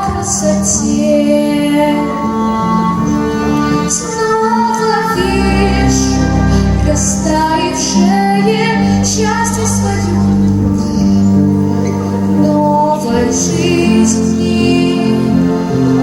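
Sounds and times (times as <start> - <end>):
woman singing a slow ballad: 0.0 - 3.3, 3.9 - 10.9, 12.4 - 15.6
backing track: 0.0 - 16.0.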